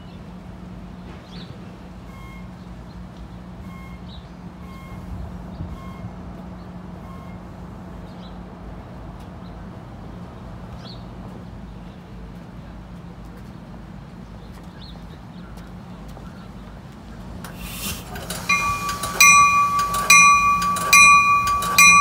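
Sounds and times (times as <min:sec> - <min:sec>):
train engine hum: 0:00.0 - 0:22.0.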